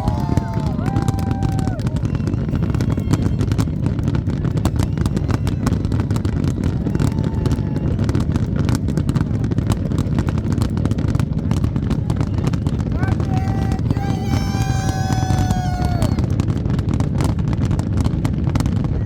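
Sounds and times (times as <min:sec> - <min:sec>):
fireworks crackling and popping: 0:00.0 - 0:19.0
low rumble of explosions: 0:00.0 - 0:19.0.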